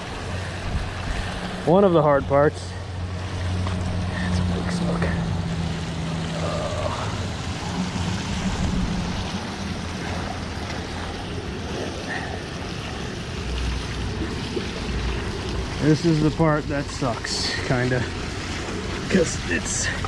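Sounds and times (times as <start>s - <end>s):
low steady hum: 0.0s - 20.0s
water rushing over spillway: 0.0s - 20.0s.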